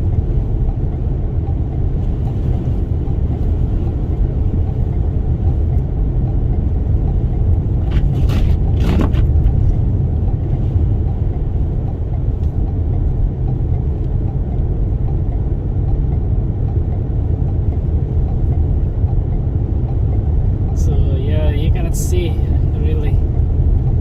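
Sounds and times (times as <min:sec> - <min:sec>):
van driving heard from inside: 0:00.0 - 0:24.0.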